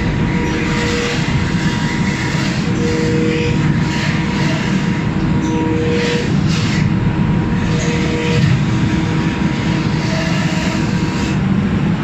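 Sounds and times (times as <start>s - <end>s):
ferry machinery low rumble: 0.0s - 12.0s.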